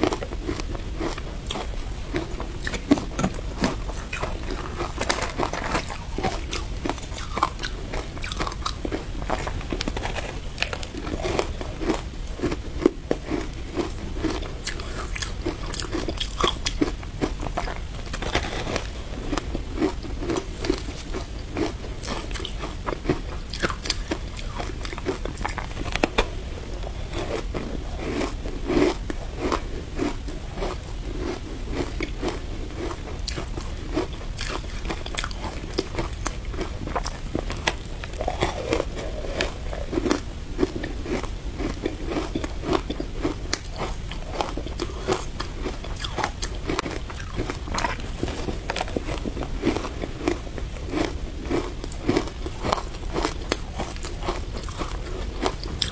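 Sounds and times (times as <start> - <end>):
crunching shaved ice: 0.0 - 55.9.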